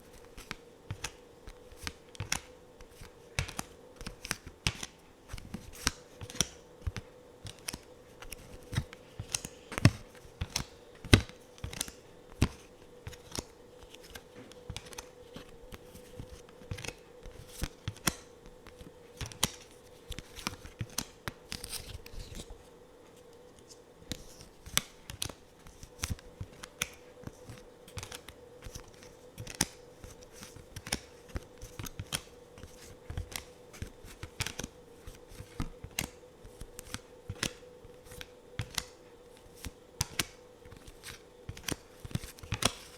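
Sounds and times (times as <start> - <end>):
cards tapping and flicking: 0.0 - 22.6, 23.2 - 42.9
faint steady hum: 0.0 - 42.9.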